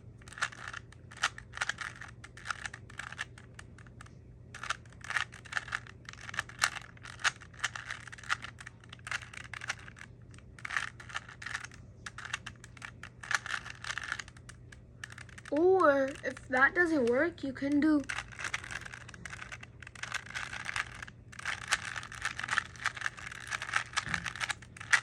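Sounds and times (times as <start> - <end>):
puzzle cube plastic clicks: 0.2 - 25.0.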